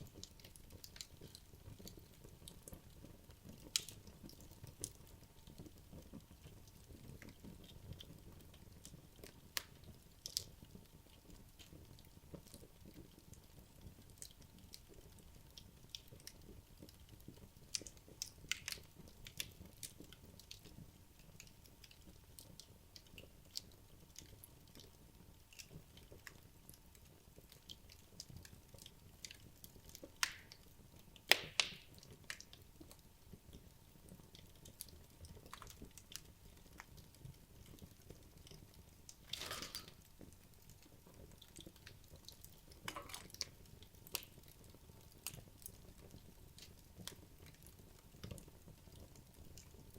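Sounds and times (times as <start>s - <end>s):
faint fire hiss: 0.0s - 49.9s
wood logs crackling in fireplace: 0.0s - 49.9s.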